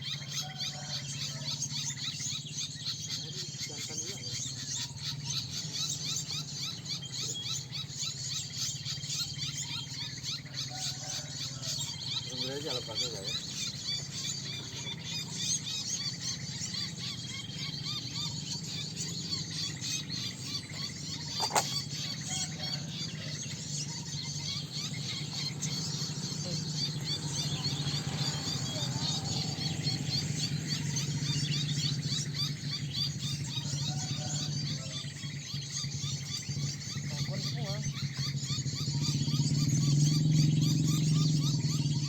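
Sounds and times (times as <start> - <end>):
small birds chirping: 0.0 - 42.0
steady low hum: 1.2 - 42.0.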